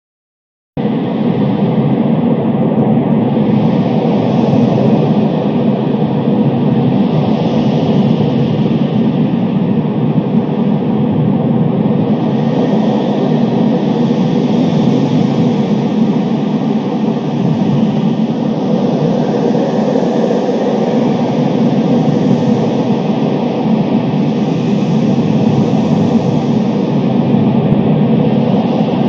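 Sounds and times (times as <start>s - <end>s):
storm wind blowing hard: 0.8s - 29.0s.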